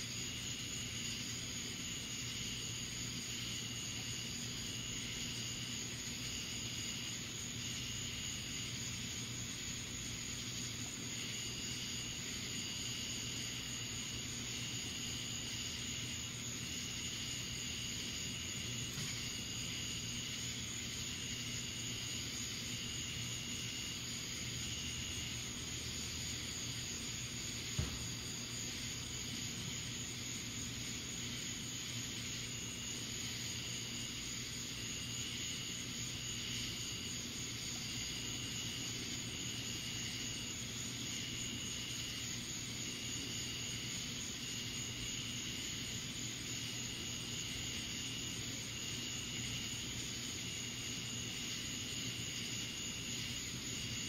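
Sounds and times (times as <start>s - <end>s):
outdoor night hiss: 0.0s - 54.0s.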